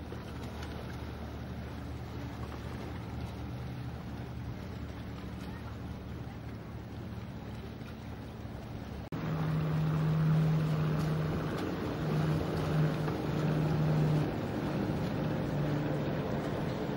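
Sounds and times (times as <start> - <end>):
low engine hum: 0.0 - 16.9
surf: 0.0 - 16.9
wind: 0.0 - 16.9.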